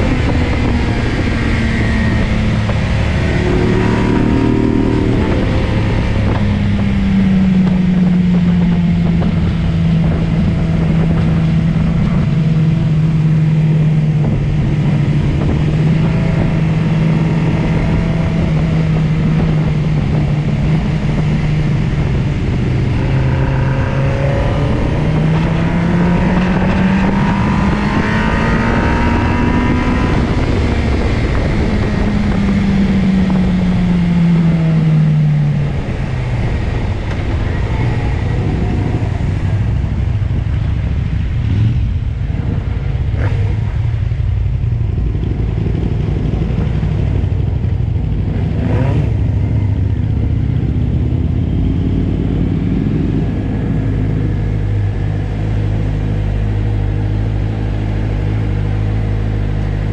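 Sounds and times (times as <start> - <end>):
motorcycle engine: 0.0 - 59.9
wind on microphone: 0.0 - 59.9.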